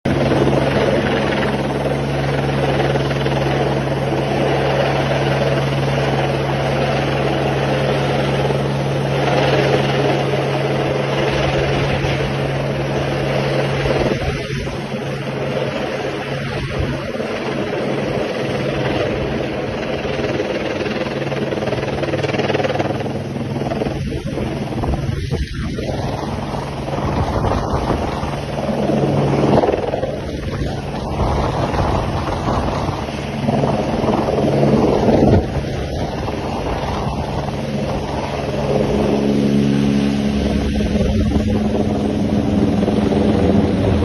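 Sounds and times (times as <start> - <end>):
helicopter rotor and engine drone: 0.0 - 44.0.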